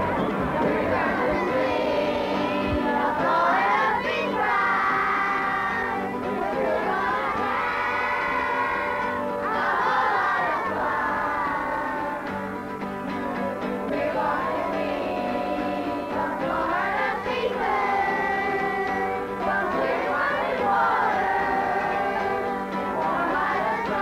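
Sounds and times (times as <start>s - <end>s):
children singing in unison: 0.0s - 24.0s
strummed acoustic guitar: 0.0s - 24.0s.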